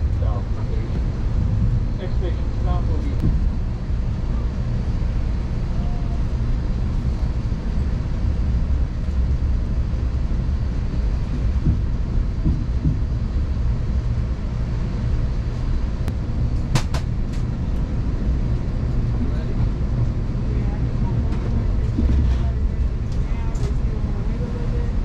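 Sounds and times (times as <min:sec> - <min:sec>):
train rumbling inside carriage: 0:00.0 - 0:25.0.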